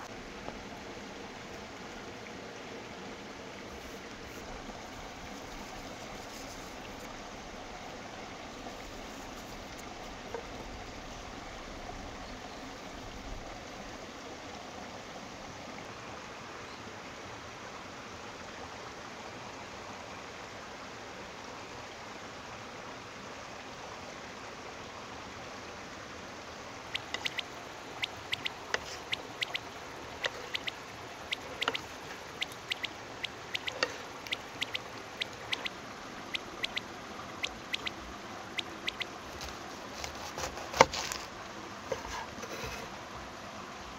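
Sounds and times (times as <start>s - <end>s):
stream running: 0.0s - 43.9s.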